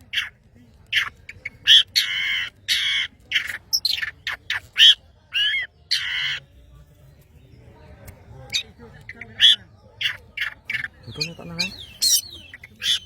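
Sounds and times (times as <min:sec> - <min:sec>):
bird harsh rasping calls: 0:00.0 - 0:06.5, 0:08.5 - 0:13.0.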